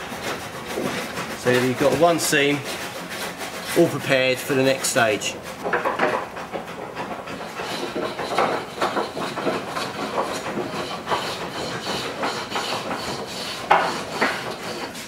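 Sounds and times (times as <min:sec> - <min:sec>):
caulking iron scraping planking: 0:00.0 - 0:15.0.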